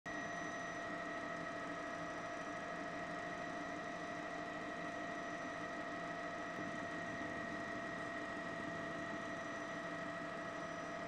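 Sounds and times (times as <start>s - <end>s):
helicopter engine and rotors: 0.1s - 11.0s.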